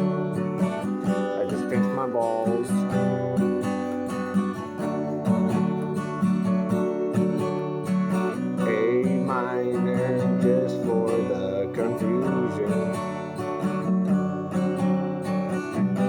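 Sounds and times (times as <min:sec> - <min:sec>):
wordless vocal melody: 0:00.0 - 0:14.8
acoustic guitar strumming: 0:00.0 - 0:16.0.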